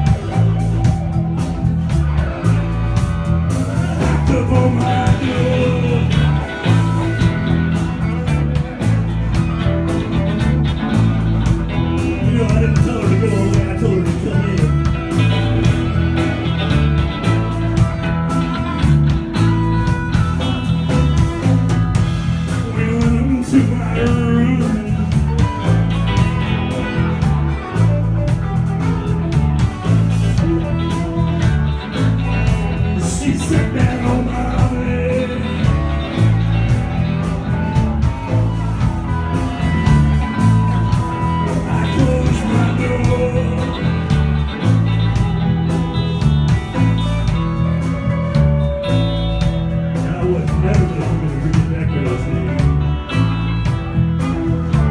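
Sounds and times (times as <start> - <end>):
band playing blues-rock: 0.0 - 54.9.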